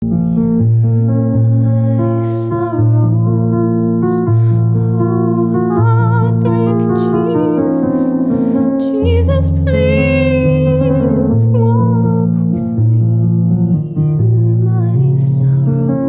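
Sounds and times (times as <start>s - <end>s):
keyboard chords: 0.0s - 16.0s
person singing with vibrato: 1.3s - 16.0s.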